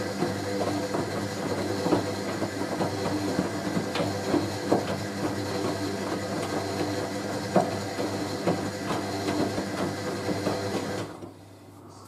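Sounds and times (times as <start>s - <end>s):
washing machine motor hum: 0.0s - 11.6s.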